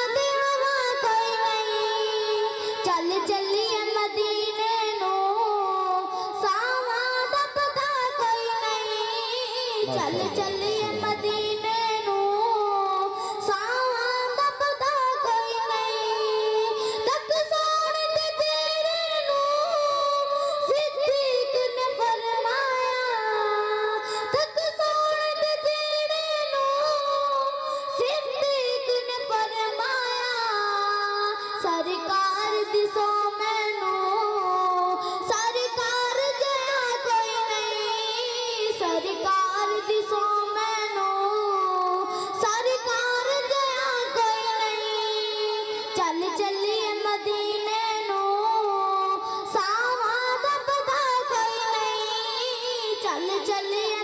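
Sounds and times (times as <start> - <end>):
boy singing into a microphone: 0.0 - 54.0.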